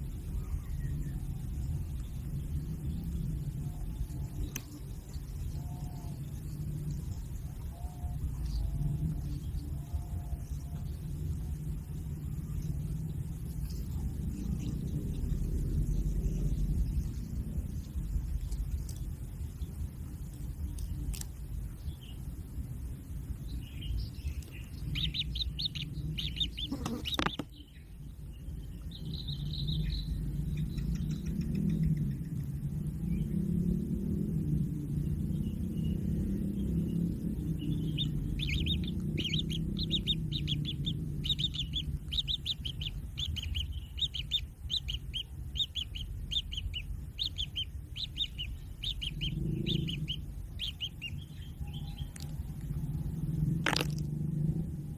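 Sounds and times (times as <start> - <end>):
bird chicks chirping: 0.0 - 22.4, 23.2 - 33.7, 34.6 - 54.1
low rumble: 0.0 - 54.9.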